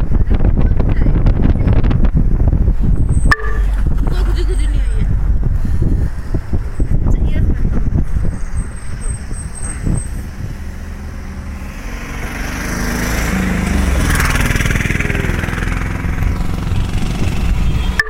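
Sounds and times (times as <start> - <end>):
jeep engine and road noise: 0.0 - 18.0.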